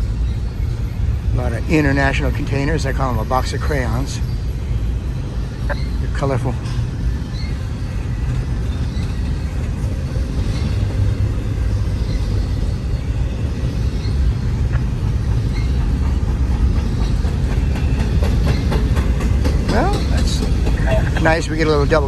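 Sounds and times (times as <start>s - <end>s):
freight train cars rolling past: 0.0s - 22.0s
high ticks from train wheels: 0.0s - 22.0s.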